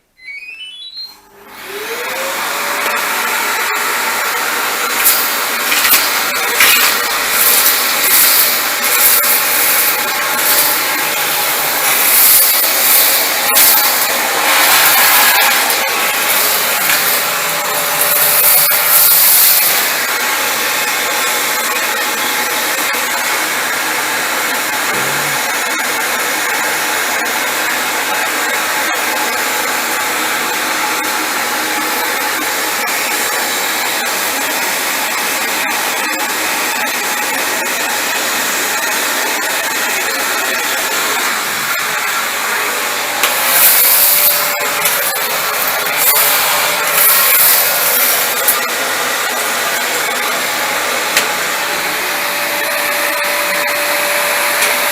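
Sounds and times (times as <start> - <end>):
vacuum cleaner running: 0.2 - 54.9.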